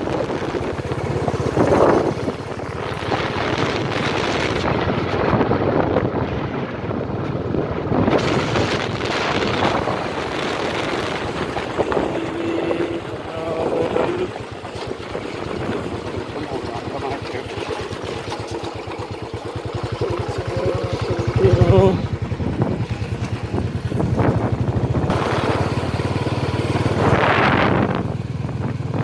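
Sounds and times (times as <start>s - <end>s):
wind rushing over microphone: 0.0s - 18.1s, 19.4s - 29.0s
vehicle engine running: 0.0s - 29.0s.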